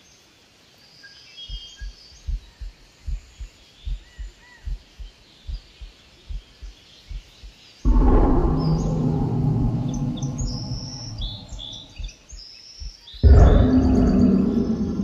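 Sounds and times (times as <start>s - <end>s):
small birds chirping: 0.0s - 15.0s
low dull thumps in pairs: 1.5s - 15.0s.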